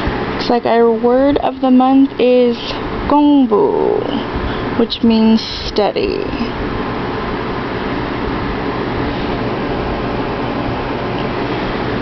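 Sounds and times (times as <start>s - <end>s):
air conditioner droning: 0.0s - 12.0s.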